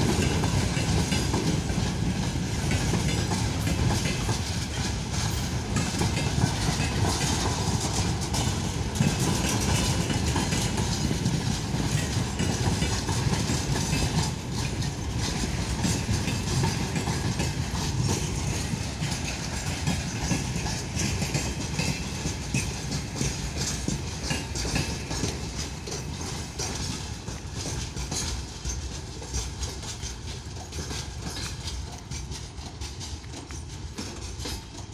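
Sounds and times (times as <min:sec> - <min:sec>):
low train rumble: 0:00.0 - 0:34.9
train wheels clicking over rail joints: 0:00.0 - 0:34.9.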